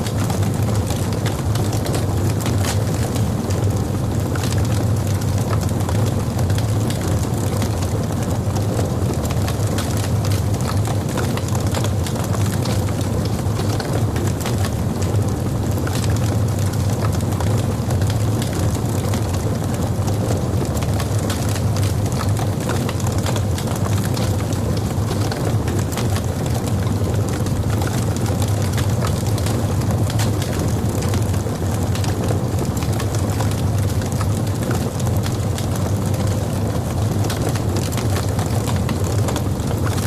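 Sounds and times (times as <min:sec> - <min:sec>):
burning wood crackling and popping: 0:00.0 - 0:40.0
low rumble of flames: 0:00.0 - 0:40.0.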